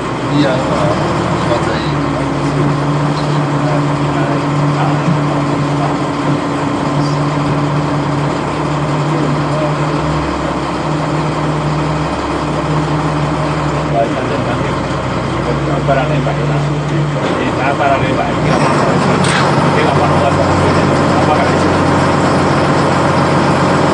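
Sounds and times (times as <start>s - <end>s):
boat engine running: 0.0s - 23.9s.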